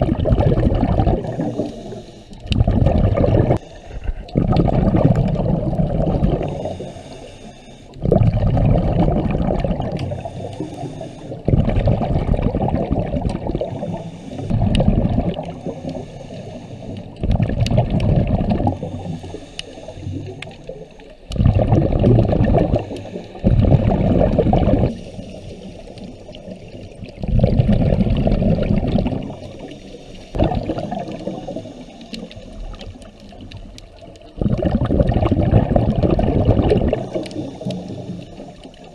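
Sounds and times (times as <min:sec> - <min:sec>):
muffled underwater exhaled bubbles: 0:00.0 - 0:38.9.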